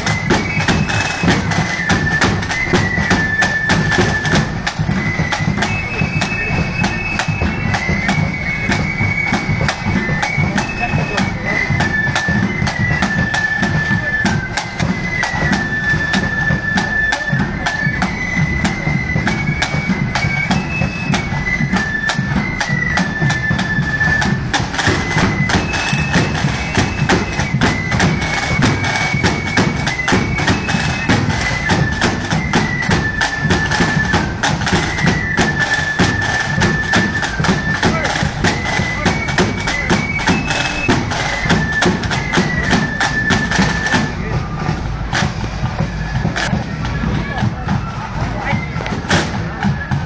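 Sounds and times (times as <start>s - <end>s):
drums rhythm: 0.0s - 50.0s
marching band melody: 0.0s - 50.0s.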